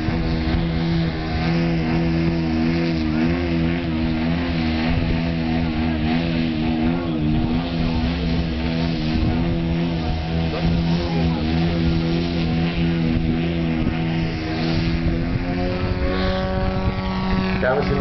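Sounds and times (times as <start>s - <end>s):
model airplane engine droning: 0.0s - 18.0s.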